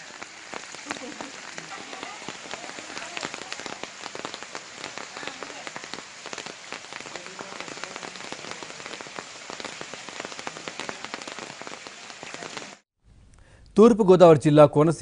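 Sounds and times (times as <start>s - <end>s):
heavy rain on hard surfaces: 0.0s - 12.8s.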